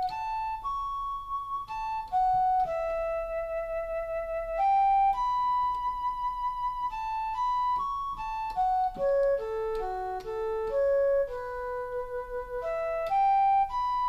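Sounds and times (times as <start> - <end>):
held-note melody: 0.0 - 14.0.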